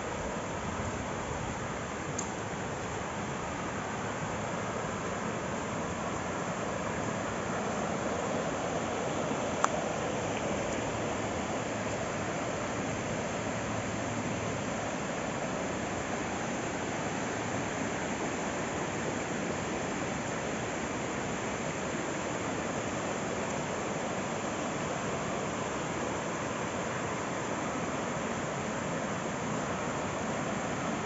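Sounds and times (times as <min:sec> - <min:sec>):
river rushing over rocks: 0:00.2 - 0:31.0.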